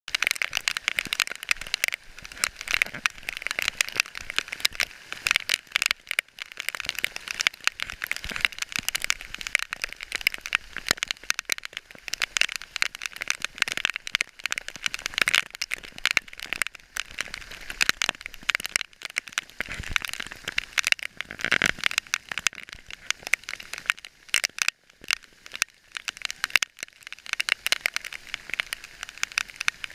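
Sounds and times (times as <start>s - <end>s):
heavy rain on a hard surface: 0.1s - 29.9s.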